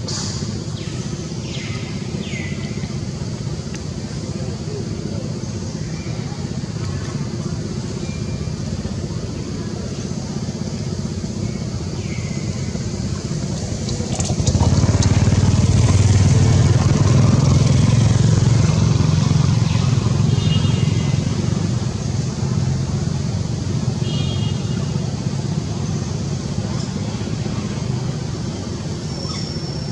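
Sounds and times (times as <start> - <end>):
vehicle engine rumbling: 0.0 - 29.9.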